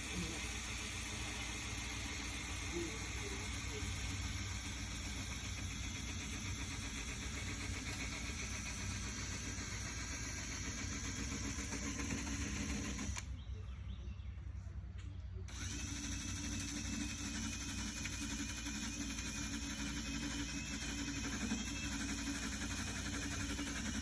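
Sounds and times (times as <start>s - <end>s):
power sander grinding paint: 0.0s - 13.2s, 15.5s - 24.0s.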